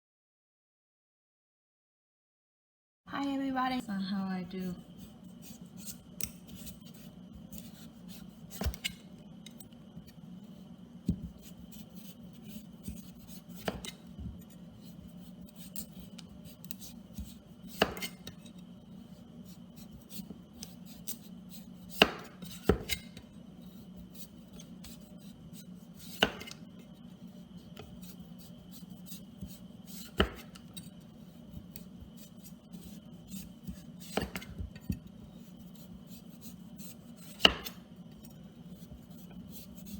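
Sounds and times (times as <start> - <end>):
steady low hum: 3.1 - 39.9.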